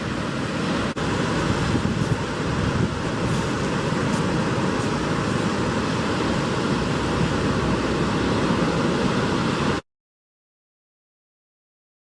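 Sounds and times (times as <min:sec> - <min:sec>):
waves breaking on rocky shore: 0:00.0 - 0:09.8.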